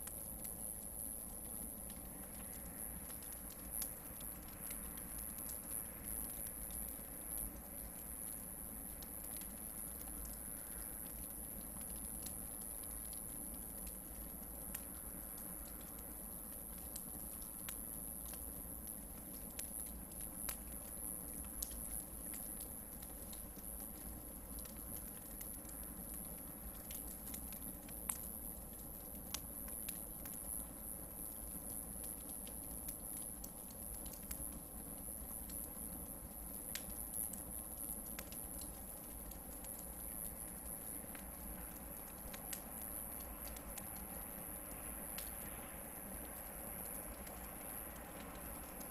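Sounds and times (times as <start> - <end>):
campfire crackling and popping: 0.0 - 48.9
fire rustle: 0.0 - 48.9.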